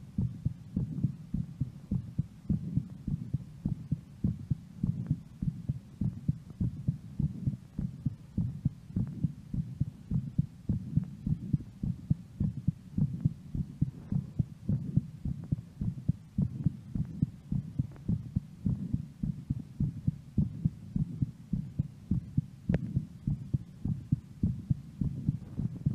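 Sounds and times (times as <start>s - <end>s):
heartbeat thudding: 0.0s - 25.9s.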